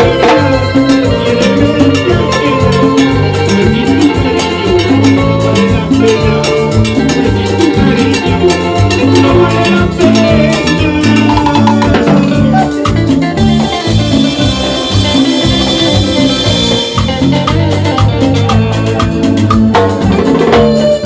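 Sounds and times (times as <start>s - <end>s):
band playing salsa dance music: 0.0s - 21.0s.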